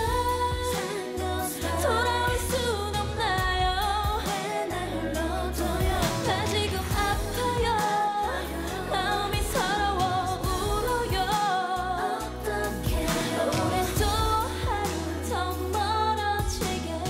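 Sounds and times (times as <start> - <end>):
deep bass line: 0.0 - 17.0
women singing pop song: 0.0 - 17.0.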